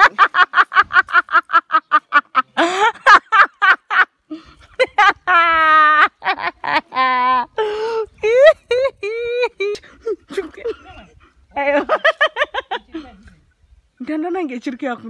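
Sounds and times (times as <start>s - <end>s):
person laughing: 0.0s - 13.2s.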